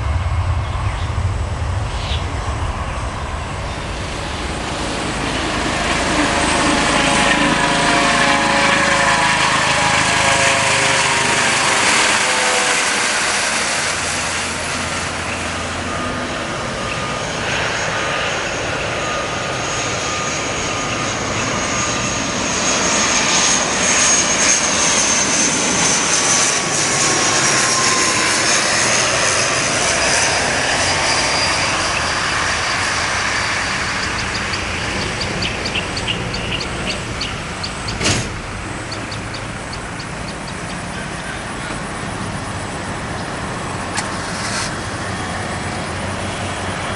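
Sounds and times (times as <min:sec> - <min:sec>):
falling engine whine: 0:00.0 - 0:46.9
turboprop plane drone: 0:00.0 - 0:46.9.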